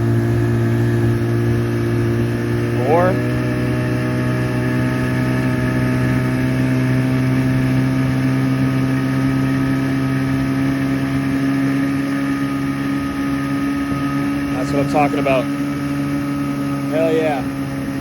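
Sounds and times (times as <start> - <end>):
outboard motor at high throttle: 0.0 - 18.0.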